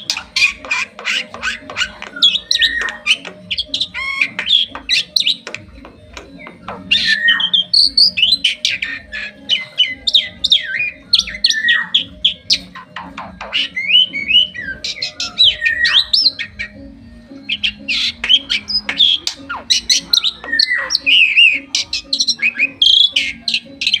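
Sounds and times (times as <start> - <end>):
starling singing: 0.0 - 24.0.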